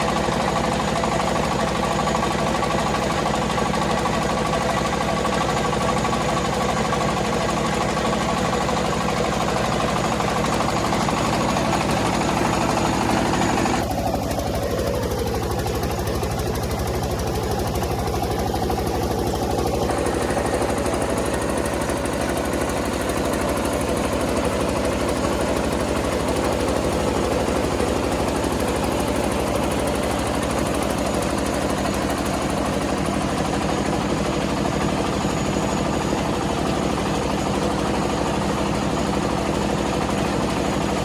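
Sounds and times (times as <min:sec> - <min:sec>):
rice milling machine rattling: 0:00.0 - 0:41.0.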